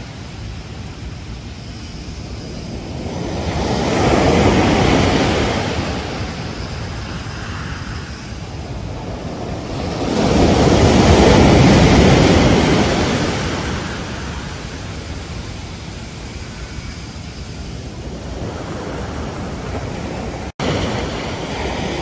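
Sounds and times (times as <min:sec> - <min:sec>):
steady rush of surf: 0:00.0 - 0:22.0
waves breaking on beach: 0:00.0 - 0:22.0.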